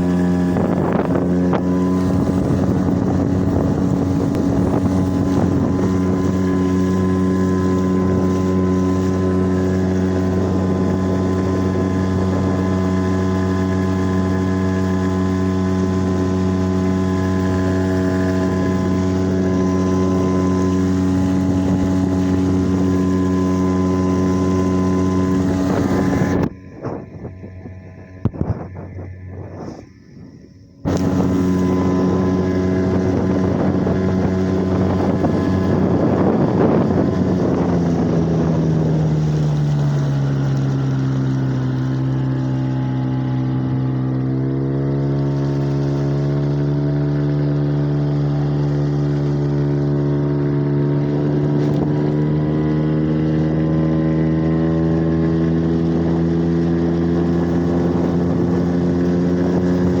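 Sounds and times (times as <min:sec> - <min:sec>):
outboard motor running: 0:00.0 - 1:00.0.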